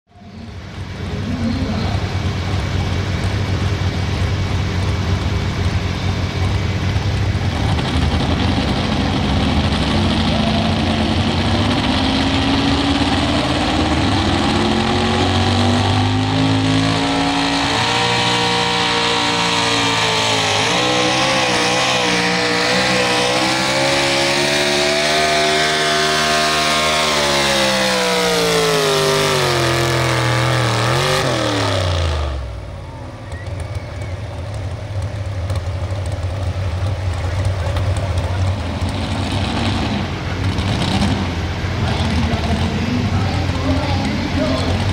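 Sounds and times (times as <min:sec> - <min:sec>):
low engine hum: 0:00.1 - 0:44.9
truck engine at full throttle: 0:00.1 - 0:44.9.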